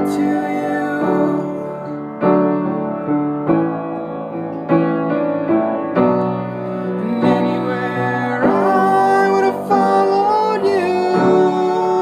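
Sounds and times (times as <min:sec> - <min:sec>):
piano playing slow chords: 0:00.0 - 0:12.0.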